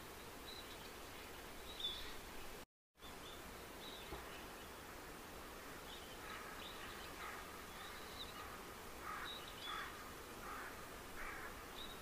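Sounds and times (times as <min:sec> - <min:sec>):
birds calling faintly: 0:00.0 - 0:12.0
steady low hiss: 0:00.0 - 0:12.0.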